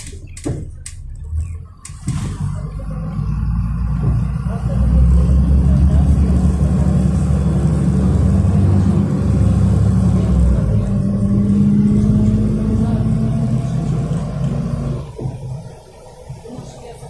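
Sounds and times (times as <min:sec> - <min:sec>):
bus engine droning: 0:00.0 - 0:17.0
faint drivetrain whine: 0:00.0 - 0:17.0.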